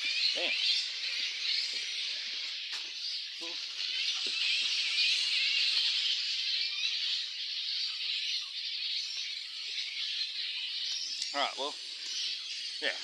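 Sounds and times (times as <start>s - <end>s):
flying foxes screeching: 0.0s - 13.0s.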